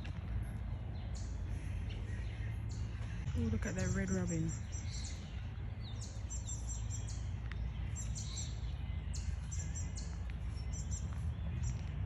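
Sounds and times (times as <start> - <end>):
songbirds chirping: 0.0 - 12.0
steady low rumble: 0.0 - 12.0.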